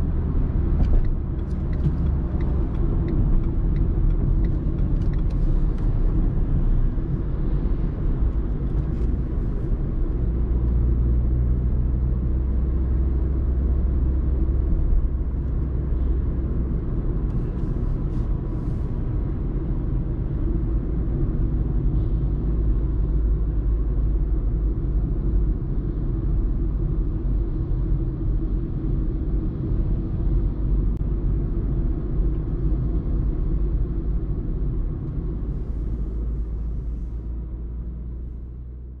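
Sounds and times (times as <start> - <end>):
car cruising on highway: 0.0 - 39.0.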